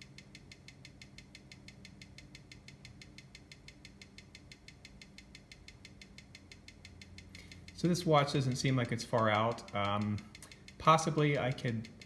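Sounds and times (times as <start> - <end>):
watch ticking: 0.0 - 12.0.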